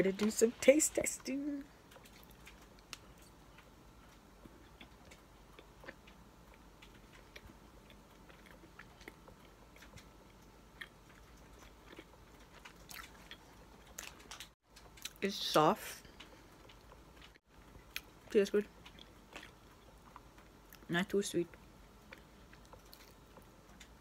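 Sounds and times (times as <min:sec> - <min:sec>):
person chewing: 0:01.8 - 0:15.2, 0:16.1 - 0:20.9, 0:21.8 - 0:24.0.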